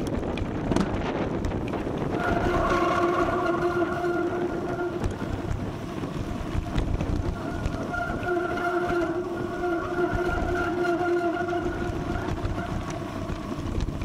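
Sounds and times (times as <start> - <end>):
humming whine from bike: 0.0 - 14.0
wind rumbling over microphone: 0.0 - 14.0.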